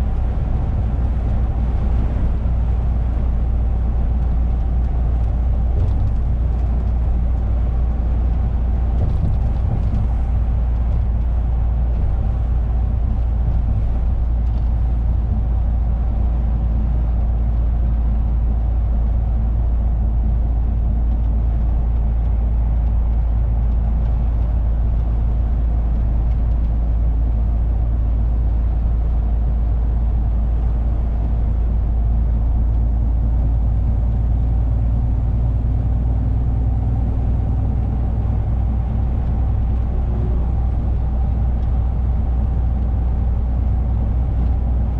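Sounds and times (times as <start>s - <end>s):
lorry engine drone in cab: 0.0s - 44.9s.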